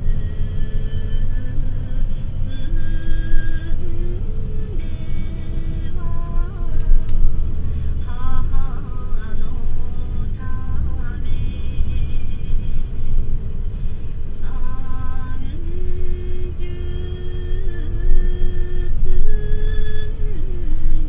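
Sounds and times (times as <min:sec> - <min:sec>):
bus diesel engine rumbling: 0:00.0 - 0:21.0.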